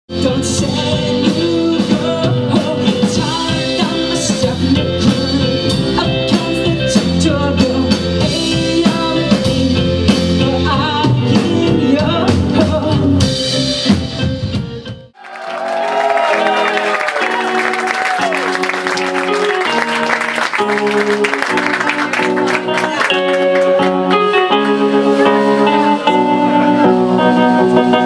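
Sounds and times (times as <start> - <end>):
live rock band playing: 0.1 - 15.2, 15.8 - 28.0.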